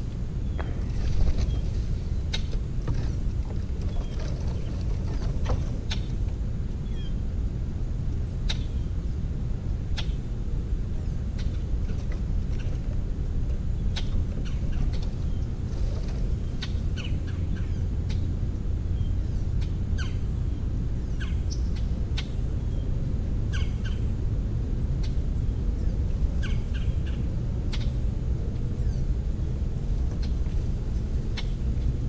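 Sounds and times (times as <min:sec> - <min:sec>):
birds calling: 0:00.0 - 0:07.3, 0:08.2 - 0:09.2, 0:11.0 - 0:32.0
steady low rumble: 0:00.0 - 0:32.0.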